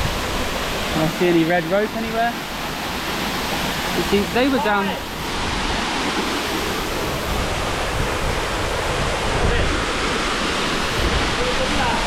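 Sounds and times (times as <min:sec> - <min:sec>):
wind buffeting microphone: 0:00.0 - 0:00.9, 0:02.5 - 0:12.0
waterfall rushing: 0:00.0 - 0:12.0.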